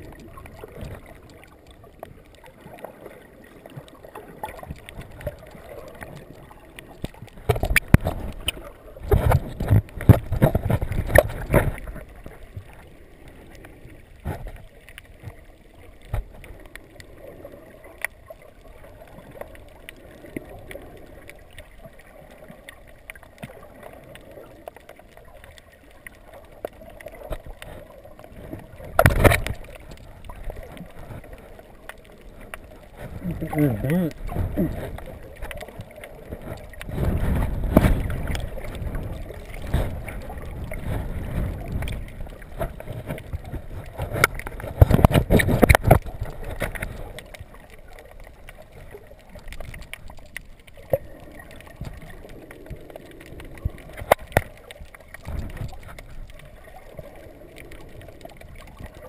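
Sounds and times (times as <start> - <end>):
muffled underwater water wash: 0.0 - 59.0
splashing and bubbling: 0.0 - 59.0.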